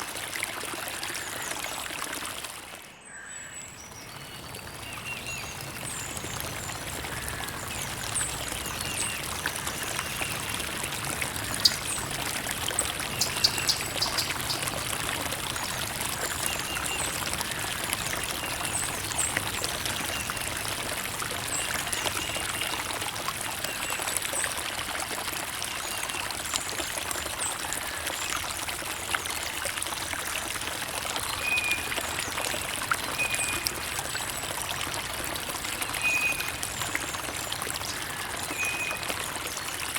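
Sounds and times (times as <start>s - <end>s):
small water splashes: 0.0s - 3.0s, 3.8s - 39.9s
creek water trickling: 0.0s - 39.9s.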